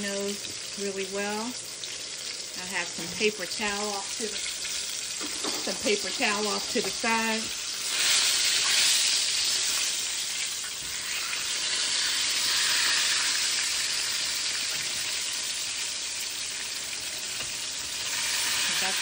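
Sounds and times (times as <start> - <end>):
fish frying in hot oil: 0.0 - 19.0.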